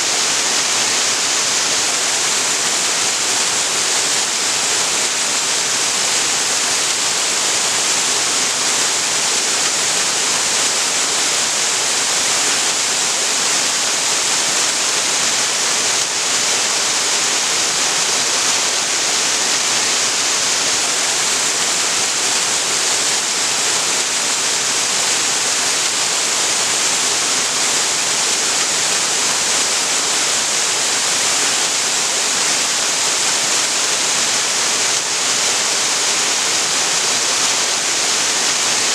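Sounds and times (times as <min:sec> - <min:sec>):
small waterfall pouring and splashing: 0:00.0 - 0:38.9.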